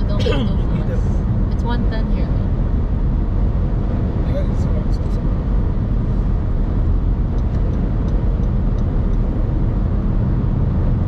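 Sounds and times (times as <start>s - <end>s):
car interior road and engine rumble: 0.0s - 11.0s.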